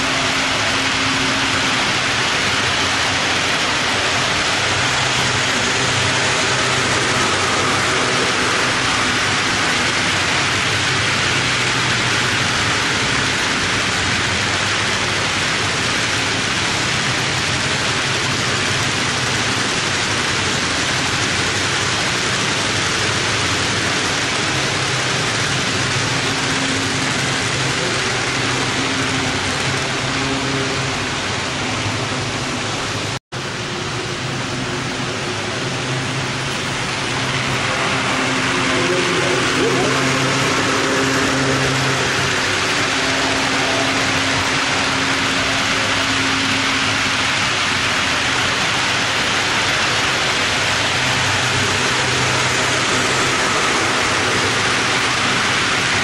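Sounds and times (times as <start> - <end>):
low hum: 0.0 - 56.0
model train wheels rushing: 0.0 - 56.0.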